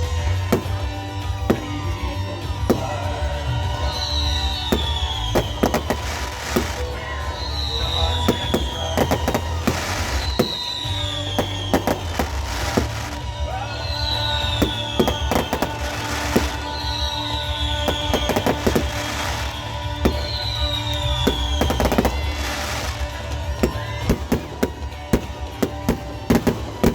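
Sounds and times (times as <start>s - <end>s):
fireworks booming: 0.0s - 26.9s
fireworks cracks: 0.0s - 26.9s
music: 0.0s - 26.9s.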